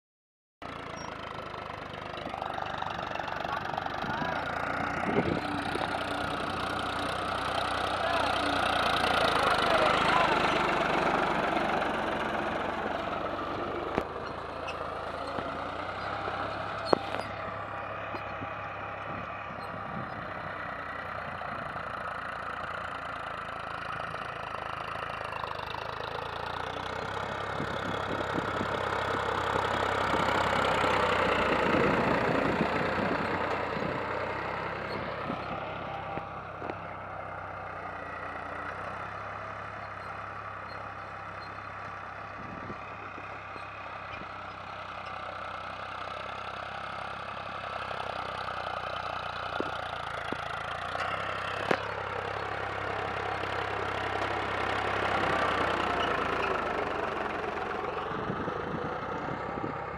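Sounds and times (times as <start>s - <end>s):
tractor diesel engine running: 0.6s - 59.9s.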